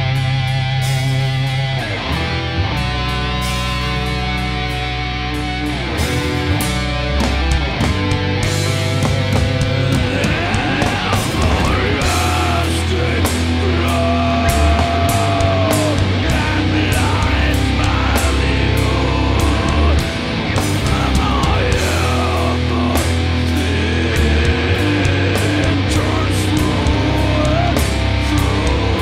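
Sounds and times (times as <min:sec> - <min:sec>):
bending guitar lead note: 0:00.0 - 0:29.0
metal band playing live: 0:00.0 - 0:29.0.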